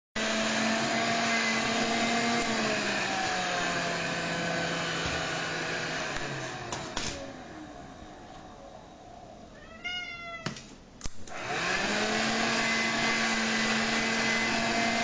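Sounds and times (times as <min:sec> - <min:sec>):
vacuum cleaner motor whine: 0:00.2 - 0:09.5, 0:11.3 - 0:15.0.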